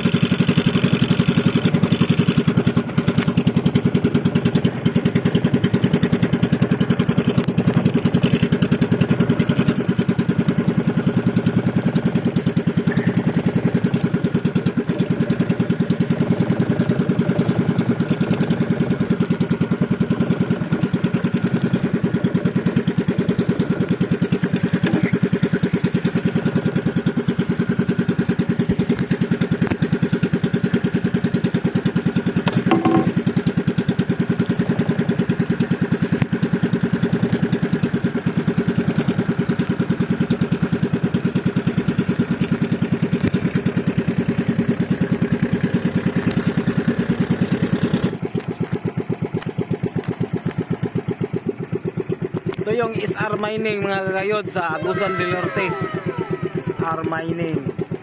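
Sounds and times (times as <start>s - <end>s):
boat engine puttering: 0.0s - 58.0s.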